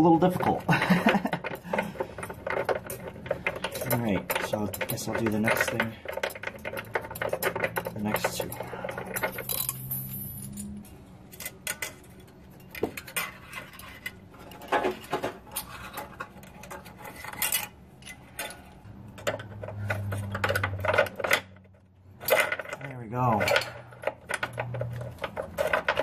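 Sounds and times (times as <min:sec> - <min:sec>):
metal bolts clinking and rattling: 0:00.0 - 0:26.0.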